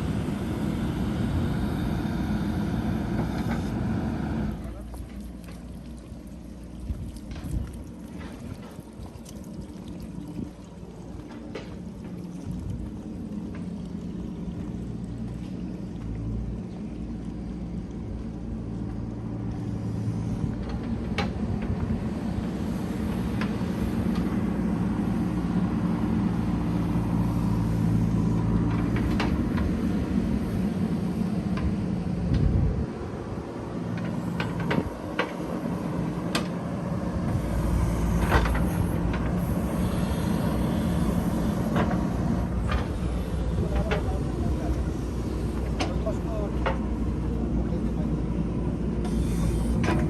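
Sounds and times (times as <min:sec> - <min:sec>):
diesel engine running: 0:00.0 - 0:06.8, 0:11.1 - 0:50.0.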